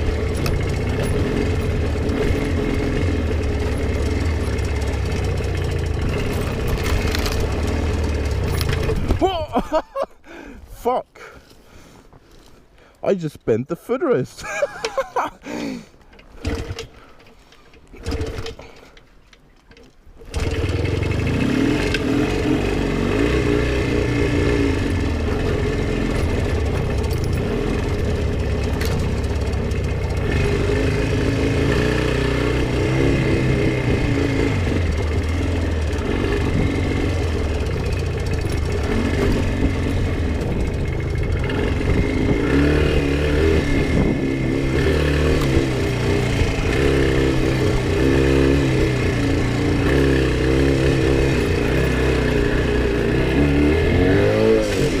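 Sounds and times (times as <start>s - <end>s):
motorcycle engine running unevenly: 0.0s - 9.7s, 20.3s - 55.0s.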